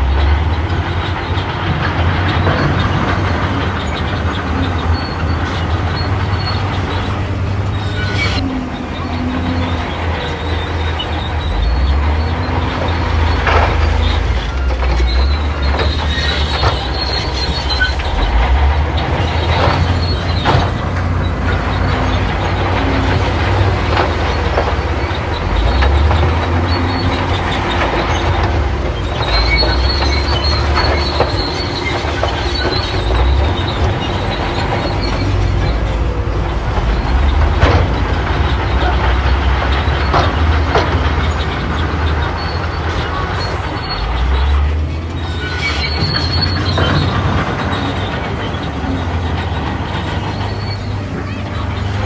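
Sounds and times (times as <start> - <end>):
bulldozer diesel engine under load: 0.0 - 52.0
steel tracks squealing and clanking: 0.0 - 52.0.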